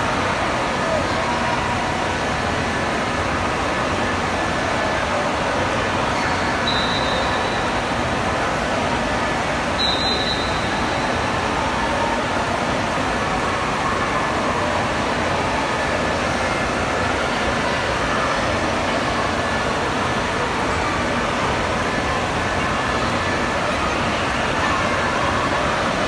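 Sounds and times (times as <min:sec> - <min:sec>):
wave pool water rushing: 0:00.0 - 0:26.0.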